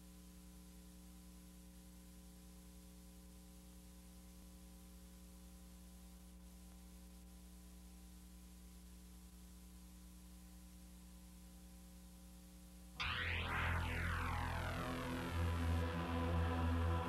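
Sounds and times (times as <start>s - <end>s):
faint electrical hum: 0.0s - 17.0s
soft tape hiss: 0.0s - 17.0s.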